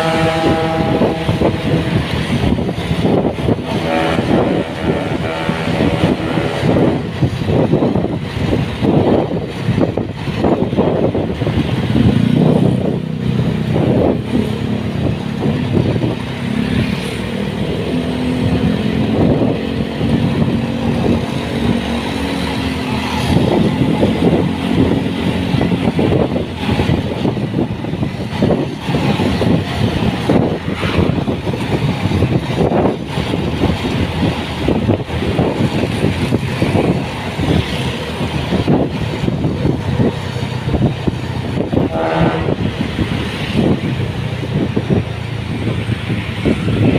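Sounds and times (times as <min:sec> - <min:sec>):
road and wind noise: 0:00.0 - 0:46.9.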